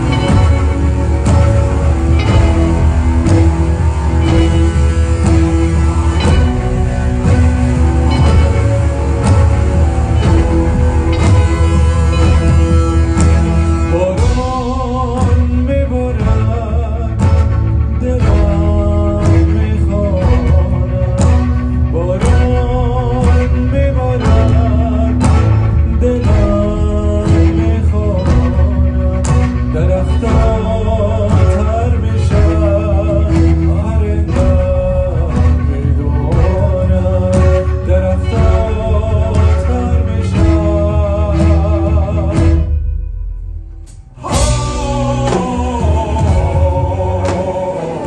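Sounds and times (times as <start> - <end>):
man singing: 0.0 - 42.8, 44.0 - 48.0
live band playing: 0.0 - 48.0.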